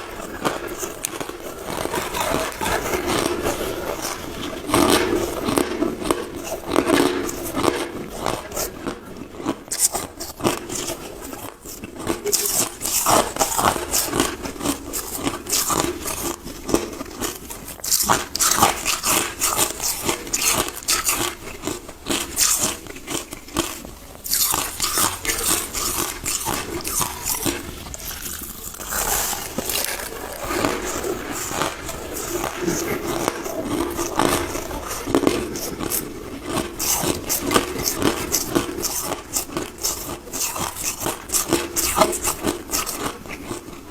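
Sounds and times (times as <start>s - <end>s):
person chewing crushed ice: 0.0s - 43.9s.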